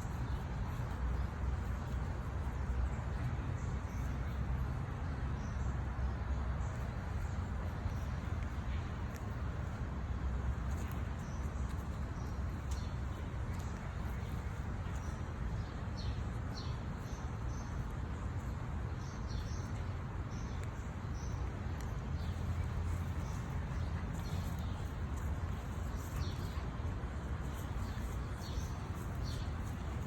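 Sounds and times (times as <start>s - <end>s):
small birds chirping: 0.0s - 30.0s
steady low rumble: 0.0s - 30.0s.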